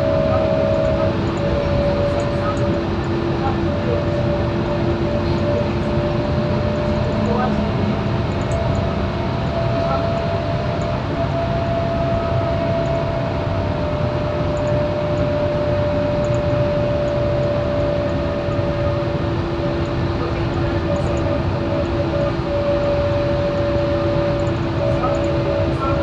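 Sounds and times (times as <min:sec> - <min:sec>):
bus engine and road noise: 0:00.0 - 0:26.0
low tone: 0:00.0 - 0:26.0.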